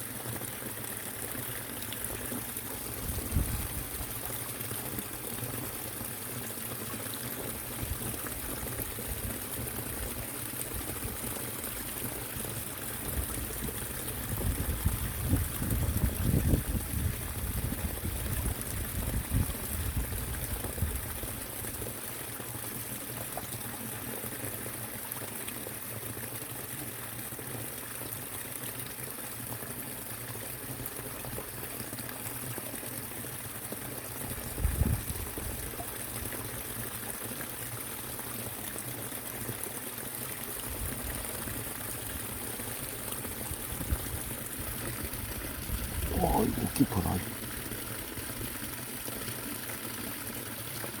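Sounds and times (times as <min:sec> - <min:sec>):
stream water pouring over weir: 0:00.0 - 0:51.0.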